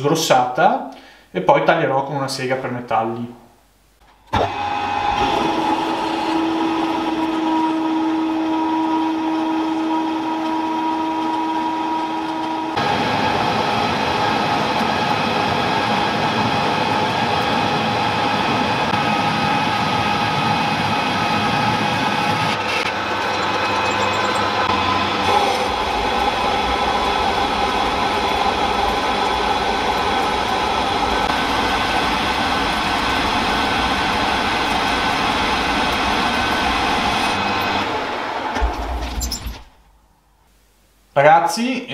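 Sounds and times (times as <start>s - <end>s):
metal lathe cutting steel: 4.4s - 39.5s.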